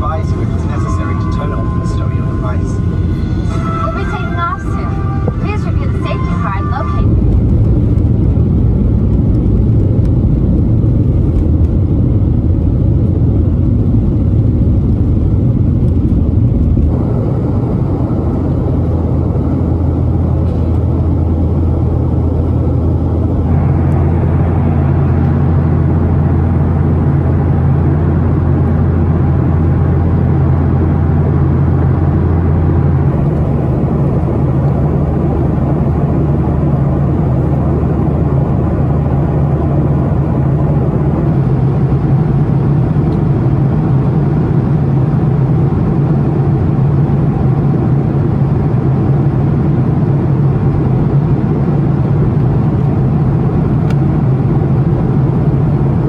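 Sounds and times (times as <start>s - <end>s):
jet engine cabin drone: 0.0s - 56.0s
low hum: 0.0s - 56.0s.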